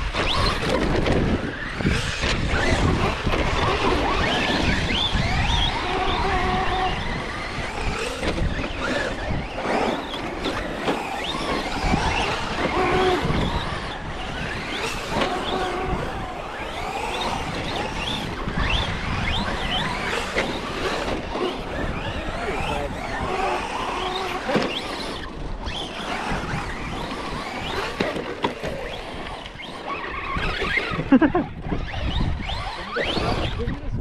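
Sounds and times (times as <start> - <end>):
electric motors whining: 0.0 - 34.0
wind buffeting microphone: 0.0 - 34.0.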